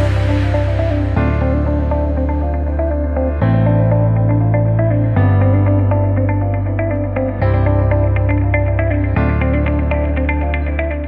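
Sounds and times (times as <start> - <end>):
sustained low chords: 0.0 - 11.0.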